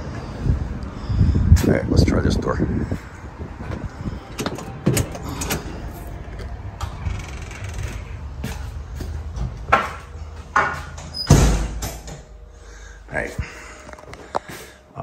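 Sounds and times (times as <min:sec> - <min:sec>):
low hum: 0:02.6 - 0:15.0.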